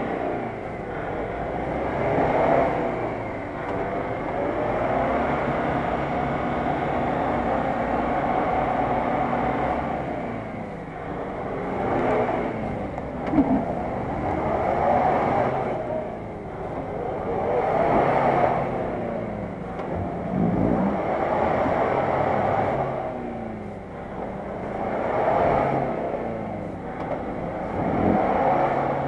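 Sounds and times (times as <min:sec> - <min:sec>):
suv engine revving: 0:00.0 - 0:29.0.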